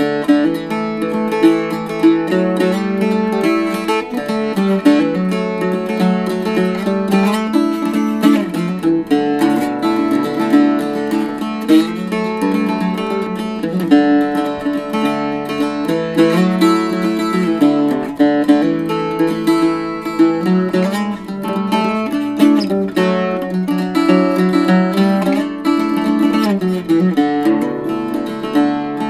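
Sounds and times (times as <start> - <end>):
mandolin picking and strumming: 0.0 - 29.0.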